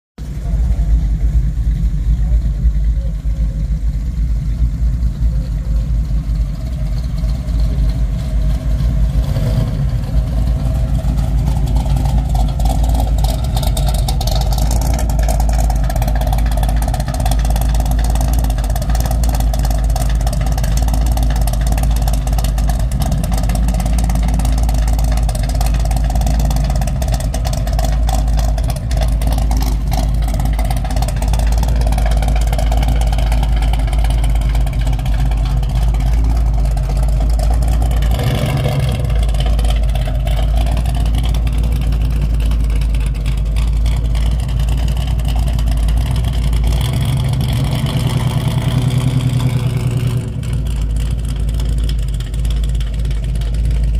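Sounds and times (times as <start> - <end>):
car engine idling: 0.2 - 53.9.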